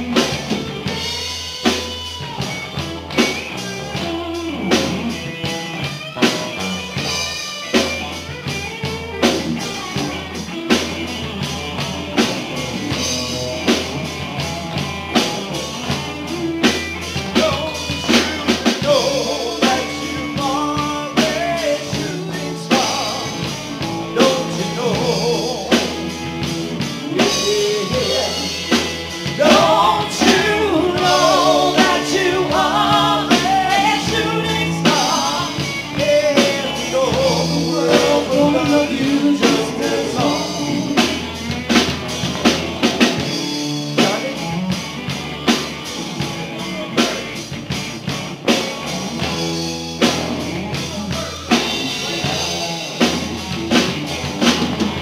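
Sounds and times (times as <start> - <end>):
bass guitar: 0.0 - 55.0
drum beat: 0.0 - 55.0
electric guitar lead line: 0.0 - 55.0.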